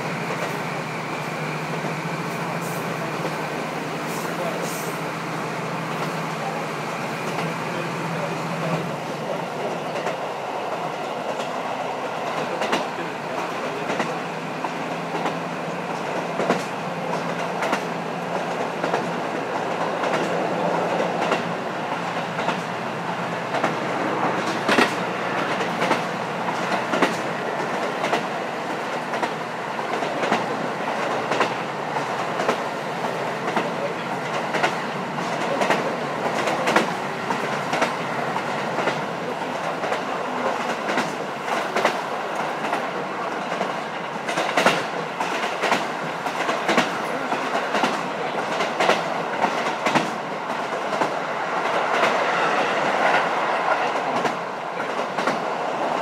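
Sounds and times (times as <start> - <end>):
railcar engine and wheels rumble: 0.0 - 56.0
rail-joint clicks and knocks: 5.8 - 11.6, 12.2 - 56.0.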